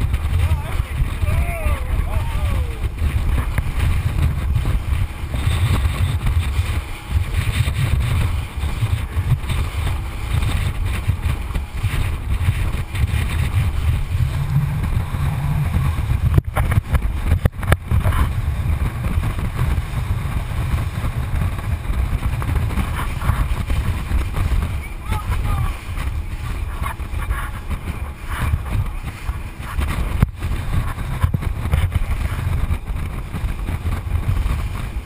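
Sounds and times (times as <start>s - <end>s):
boat engine rumble: 0.0s - 35.0s
rushing water: 0.0s - 35.0s
wind buffeting microphone: 0.0s - 35.0s.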